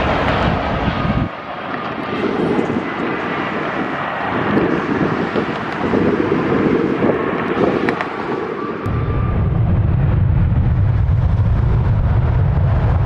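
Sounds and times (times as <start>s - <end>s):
jet engine rushing noise: 0.0s - 13.0s.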